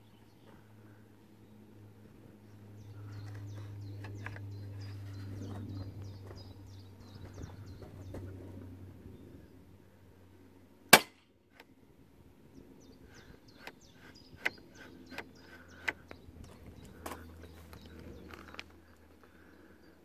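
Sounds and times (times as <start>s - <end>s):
birds chirping faintly: 0.0s - 10.5s, 12.3s - 20.0s.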